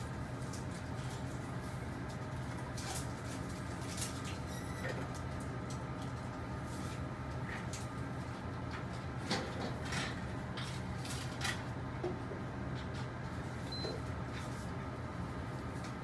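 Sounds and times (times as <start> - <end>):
laboratory equipment hum: 0.0 - 16.0.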